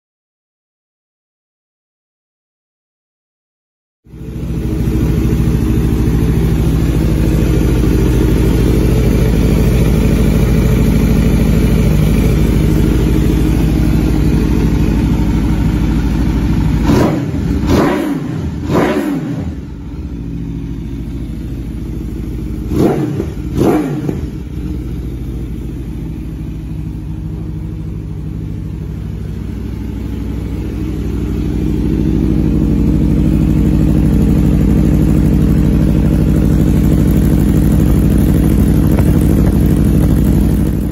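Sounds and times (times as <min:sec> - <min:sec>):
motorcycle engine idling: 0:04.1 - 0:40.9
motorcycle engine revving: 0:04.1 - 0:40.9.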